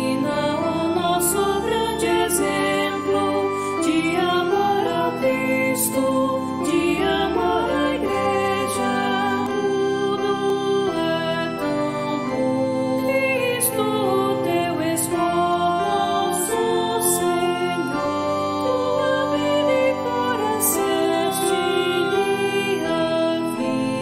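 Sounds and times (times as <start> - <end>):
organ-like keyboard: 0.0 - 24.0
voices singing a hymn: 0.0 - 24.0.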